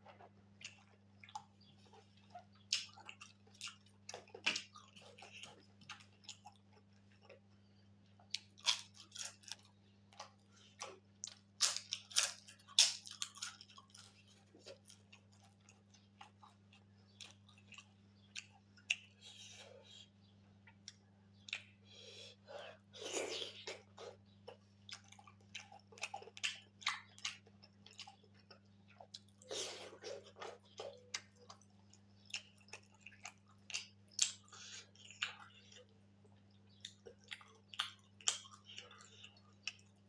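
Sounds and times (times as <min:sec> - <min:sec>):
chewing food wet smacks: 0:00.0 - 0:40.0.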